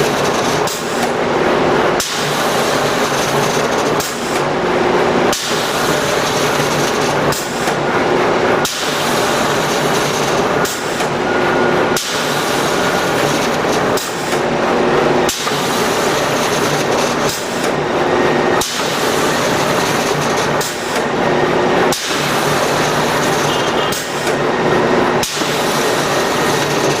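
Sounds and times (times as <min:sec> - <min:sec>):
cardboard cutting machine running: 0:00.0 - 0:27.0.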